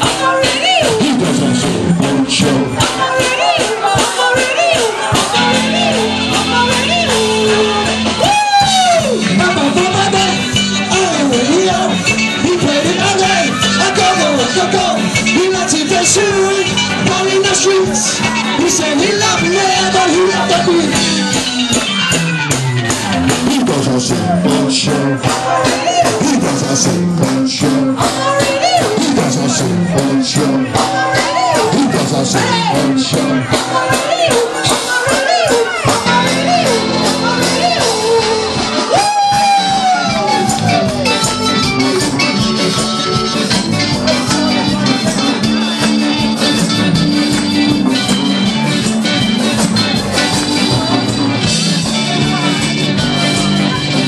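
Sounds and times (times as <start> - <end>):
person singing: 0.0 - 21.6, 23.1 - 54.0
live ska band playing: 0.0 - 54.0.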